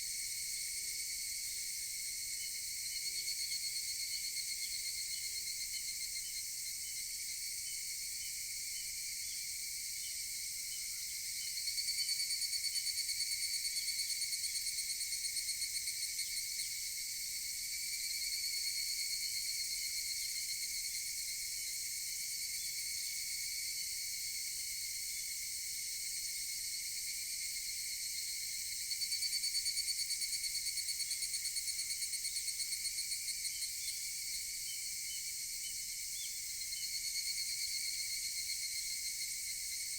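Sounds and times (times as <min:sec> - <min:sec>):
cicada chorus: 0:00.0 - 0:39.9
rapid pulsing cicada call: 0:02.4 - 0:39.9.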